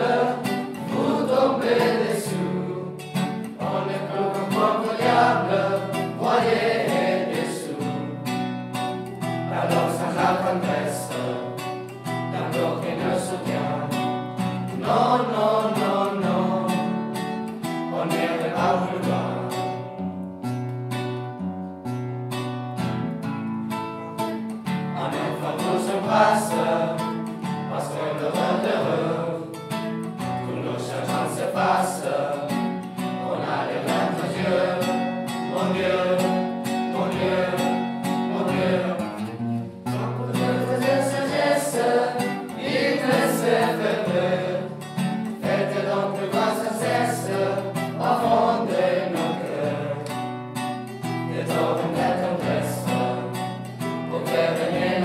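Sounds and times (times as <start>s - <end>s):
boys singing together: 0.0s - 8.5s, 9.2s - 19.8s, 24.9s - 50.3s, 51.0s - 55.0s
acoustic guitar: 0.0s - 55.0s.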